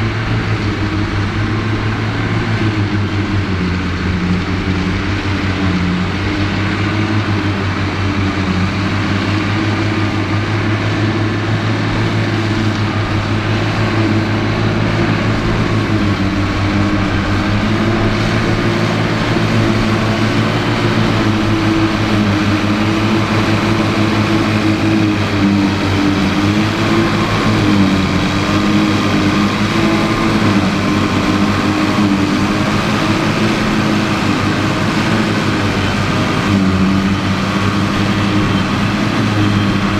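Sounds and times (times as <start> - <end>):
forage harvester running: 0.0 - 39.9
tractor diesel engine under load: 0.0 - 39.9.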